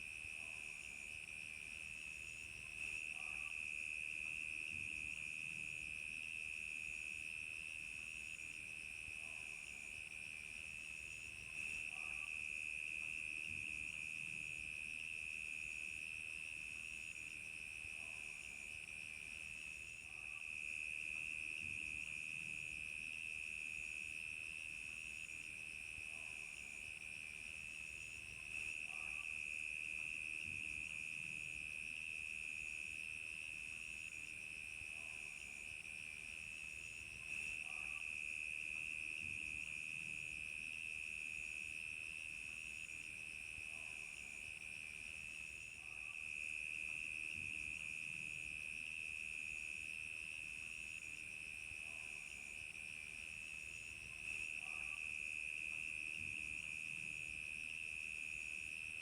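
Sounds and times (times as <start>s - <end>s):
crickets chirping: 0.1s - 59.0s.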